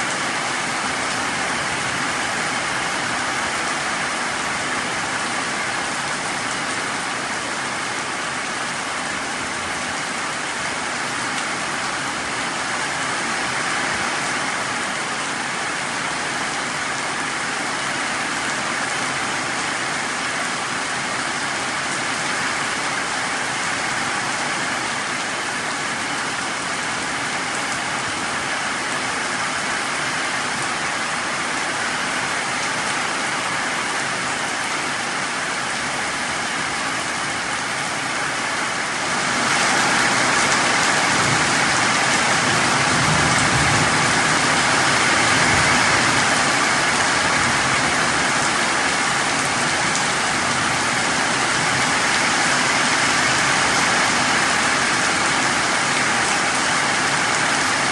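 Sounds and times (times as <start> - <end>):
heavy rain on ground and leaves: 0.0 - 57.9.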